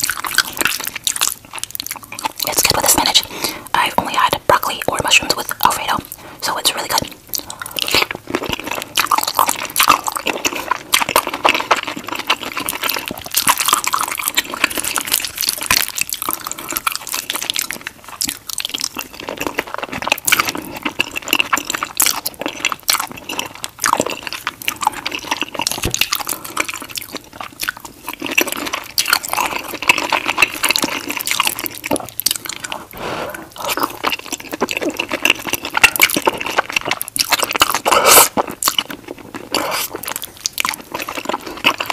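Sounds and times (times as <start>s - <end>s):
wet slurping and chewing: 0.0s - 41.9s.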